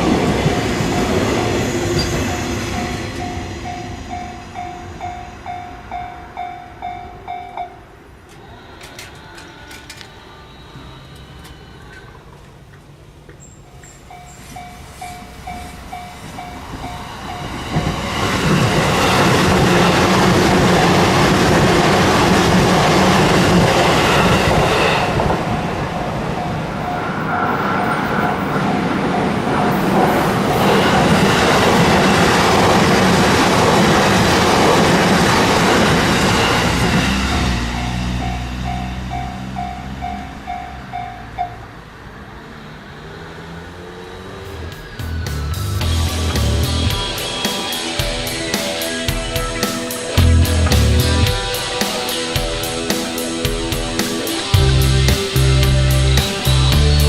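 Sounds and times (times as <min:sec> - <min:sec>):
crossing warning bell ringing: 0:00.0 - 0:12.4, 0:13.4 - 0:42.0, 0:45.6 - 0:57.0
train rumbling past: 0:00.0 - 0:57.0.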